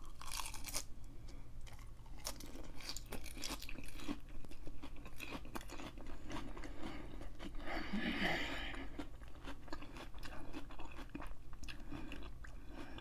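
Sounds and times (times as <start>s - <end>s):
crunchy chewing of lettuce: 0.0s - 1.0s, 1.6s - 13.0s.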